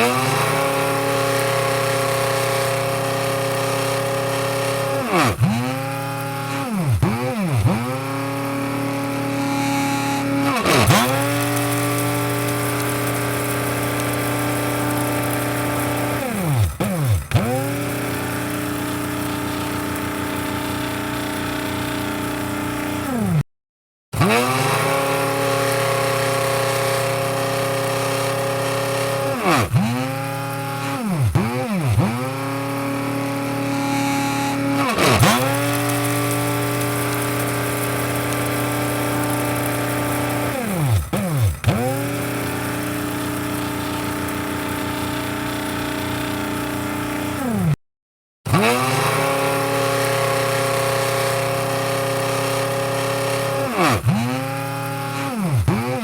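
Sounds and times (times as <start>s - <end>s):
coffee grinder motor whine: 0.0s - 23.4s, 24.2s - 47.8s, 48.5s - 56.0s.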